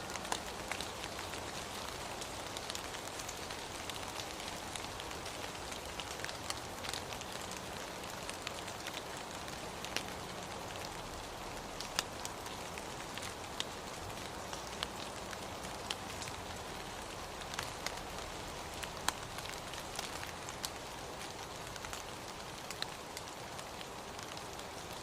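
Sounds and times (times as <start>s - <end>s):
raindrop ticks: 0.0s - 25.0s
steady rain falling: 0.0s - 25.0s.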